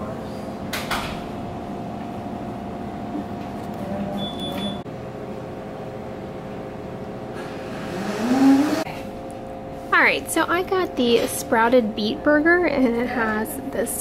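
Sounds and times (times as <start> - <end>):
refrigeration machine hum: 0.0 - 14.0.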